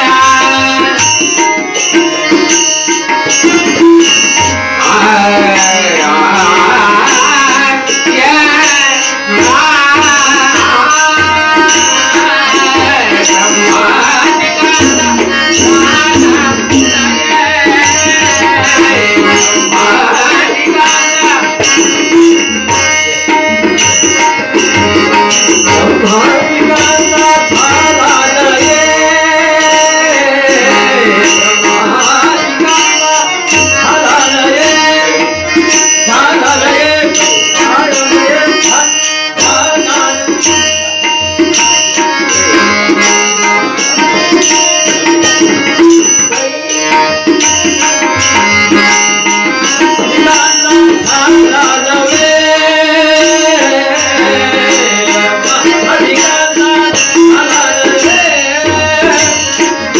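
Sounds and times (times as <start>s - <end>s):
harmonium: 0.0s - 59.9s
man singing: 0.0s - 59.9s
tabla drumming: 0.0s - 59.9s.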